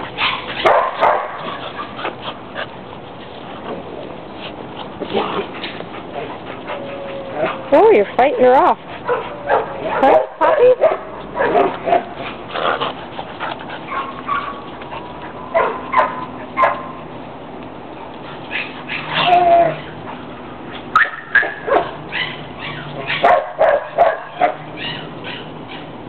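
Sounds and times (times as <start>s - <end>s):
puppies barking: 0.0s - 2.6s, 5.1s - 12.8s, 13.8s - 17.1s, 18.4s - 26.0s.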